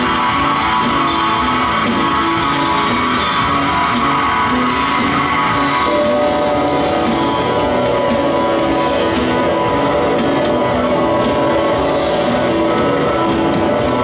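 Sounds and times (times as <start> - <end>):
drums: 0.0 - 14.0.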